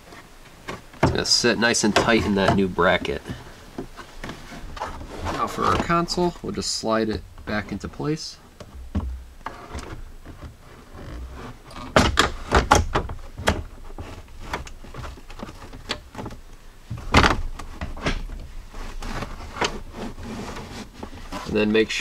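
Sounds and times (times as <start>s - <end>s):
plastic knocks and scrapes: 0.0s - 6.4s, 8.5s - 21.8s.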